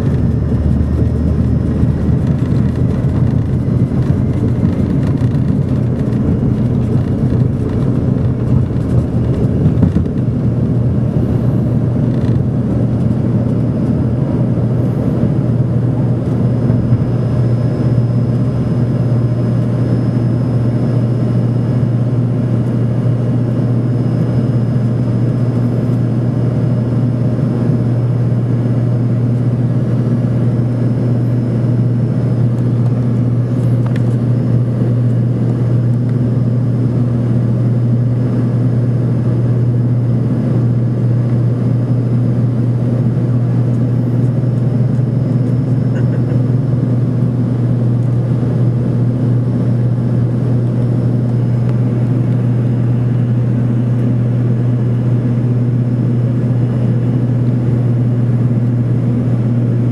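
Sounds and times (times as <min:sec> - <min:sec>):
faint high engine whine: 0:00.0 - 0:59.9
jet cabin drone: 0:00.0 - 0:59.9.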